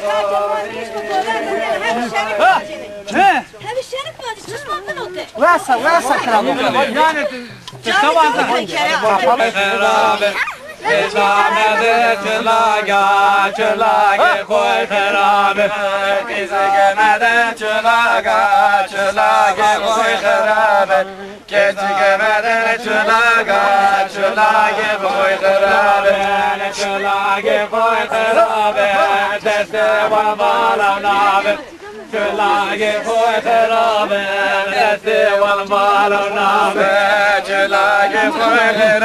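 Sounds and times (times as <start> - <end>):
group of voices singing: 0.0 - 3.7, 4.4 - 39.0.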